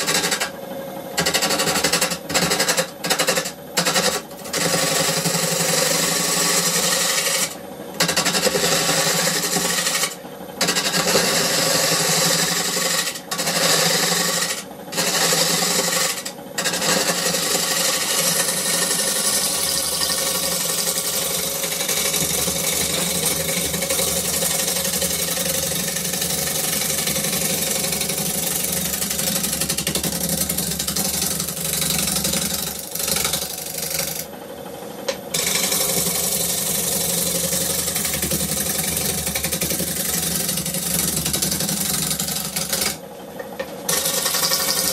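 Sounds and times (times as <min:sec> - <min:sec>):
gouge scraping wood on lathe: 0:00.0 - 0:00.5, 0:01.2 - 0:34.3, 0:35.3 - 0:43.0, 0:43.9 - 0:44.9
lathe motor hum: 0:00.1 - 0:44.9.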